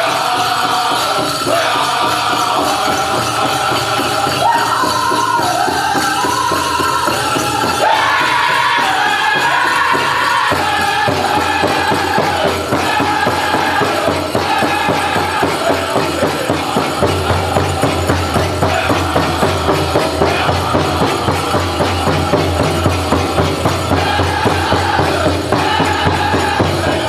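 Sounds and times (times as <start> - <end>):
group singing in high voices: 0.0 - 27.0
jingling bells: 0.0 - 27.0
steady drum beat: 0.0 - 27.0.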